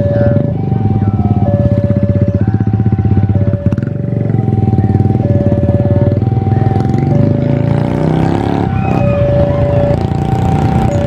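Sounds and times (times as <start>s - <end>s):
engine running loudly: 0.0s - 11.0s.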